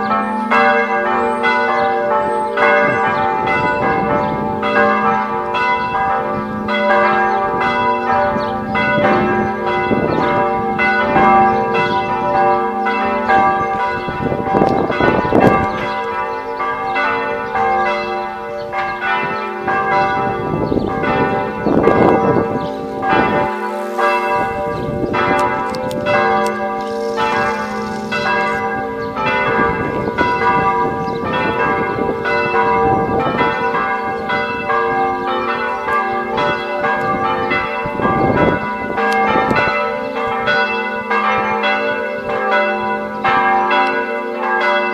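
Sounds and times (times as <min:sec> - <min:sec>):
church bells pealing: 0:00.0 - 0:44.9.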